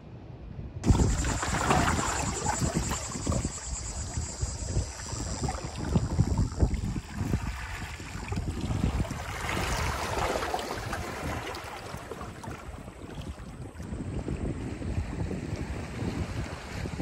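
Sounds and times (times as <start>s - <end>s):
waves lapping on boulders: 0.8s - 17.0s
wind buffeting microphone: 0.8s - 17.0s.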